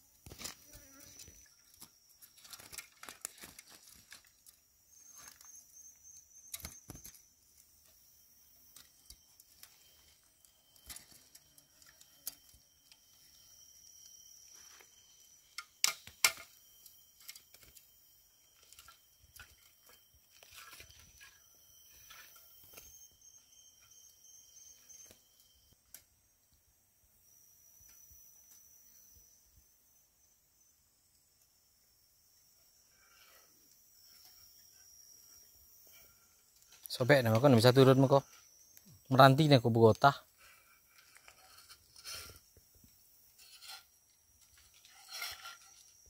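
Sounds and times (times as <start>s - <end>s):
insects droning: 0.0s - 46.0s
rapid pulsed insect notes: 0.0s - 46.0s.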